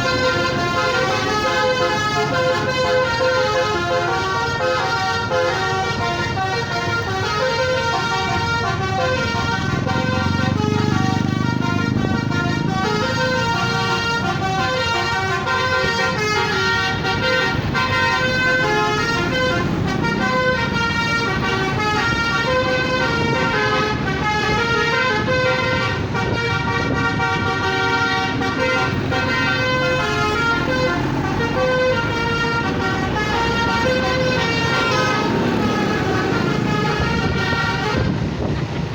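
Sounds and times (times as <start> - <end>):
bus horn playing a melody: 0.0 - 38.7
engine and traffic rumble: 0.0 - 38.9.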